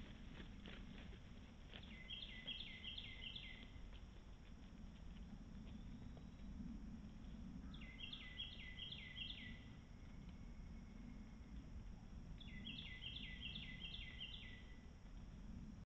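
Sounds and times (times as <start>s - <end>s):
songbird singing: 0.0s - 15.5s
steady low rumble: 0.0s - 15.8s.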